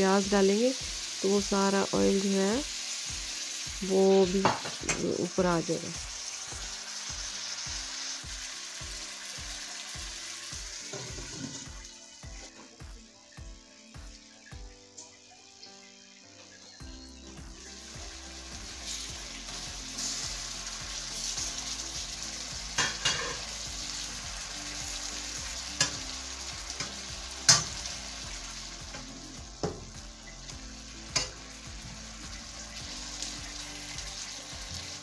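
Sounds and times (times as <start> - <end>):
sauce sizzling in a wok: 0.0 - 35.0.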